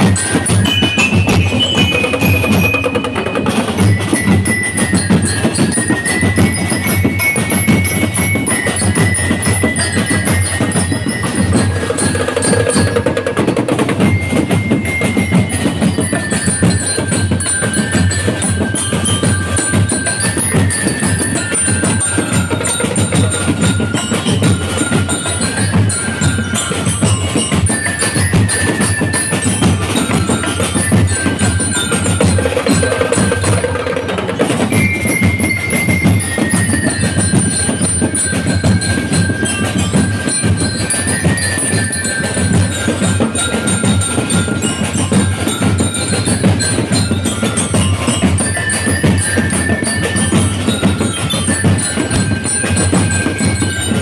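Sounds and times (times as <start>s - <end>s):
bell lyres playing melody: 0.0s - 54.0s
steady drum beat: 0.0s - 54.0s.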